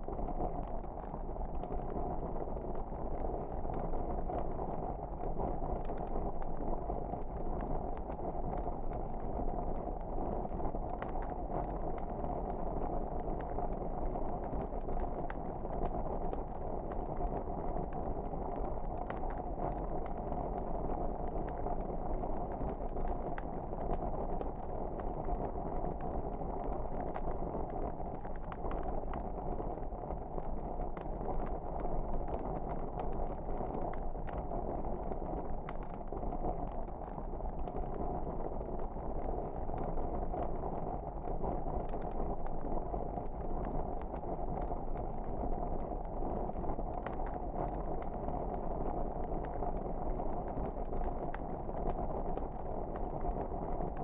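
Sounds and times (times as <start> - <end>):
fire burning with crackles: 0.0 - 54.0.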